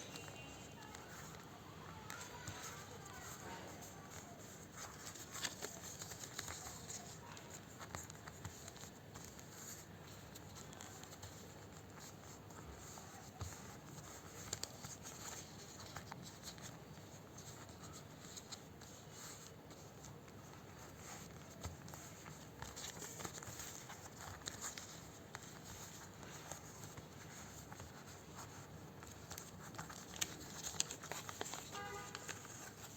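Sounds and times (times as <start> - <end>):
paper creasing clicks and taps: 0.0 - 32.9
paper rustling: 0.0 - 32.9.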